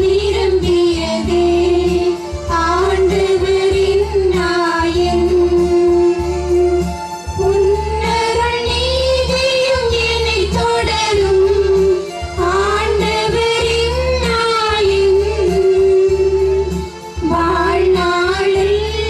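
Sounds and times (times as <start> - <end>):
woman singing a devotional hymn: 0.0 - 6.8, 7.4 - 19.0
low instrumental accompaniment: 0.0 - 19.0.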